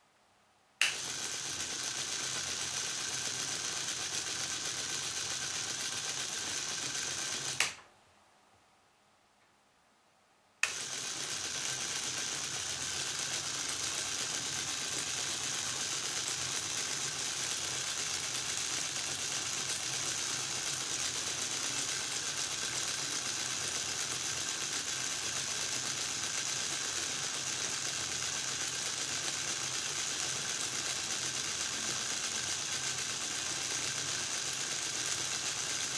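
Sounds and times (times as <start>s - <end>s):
small electric motor whirring: 0.8s - 7.8s, 10.6s - 35.9s.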